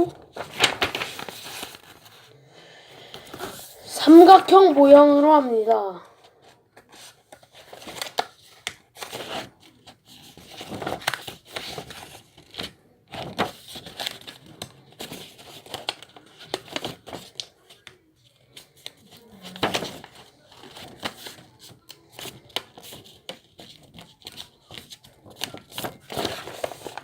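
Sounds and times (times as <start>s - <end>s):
paper rustling and crackling: 0.0s - 2.4s, 3.0s - 27.0s.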